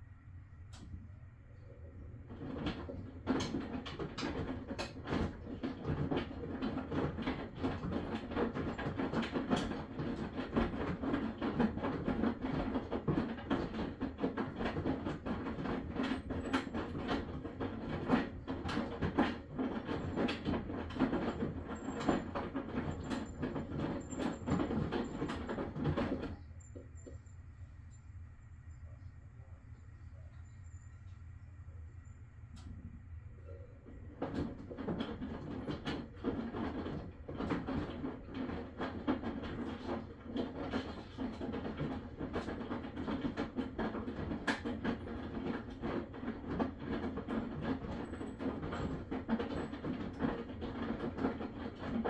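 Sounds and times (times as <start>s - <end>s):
washing machine running: 0.0s - 52.0s.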